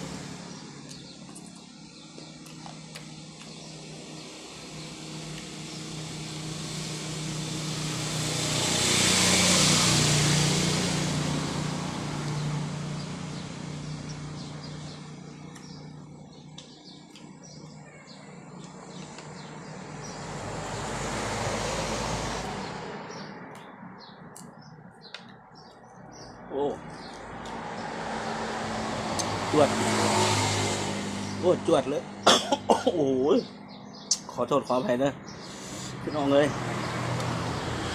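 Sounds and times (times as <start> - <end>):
vehicles passing on road: 0.0 - 37.9.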